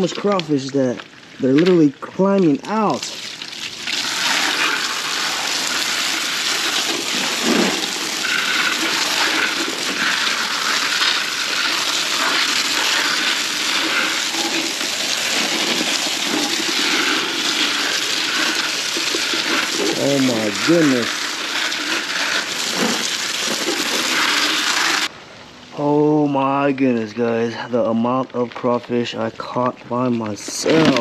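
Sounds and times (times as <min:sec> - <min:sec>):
hose spraying water into buckets: 0:00.0 - 0:25.1, 0:28.1 - 0:31.0.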